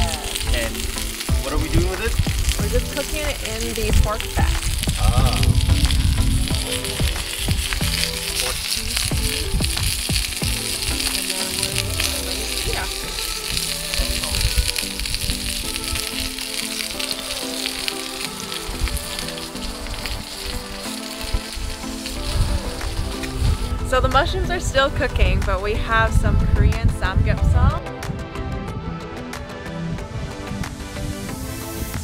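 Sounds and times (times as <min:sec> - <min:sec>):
meat sizzling in a pan: 0:00.0 - 0:25.8, 0:30.3 - 0:32.0.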